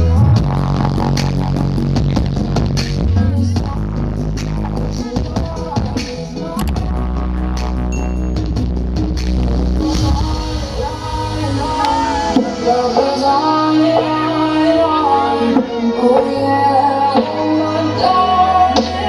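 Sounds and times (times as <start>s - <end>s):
loud music with singing voice: 0.0s - 19.0s.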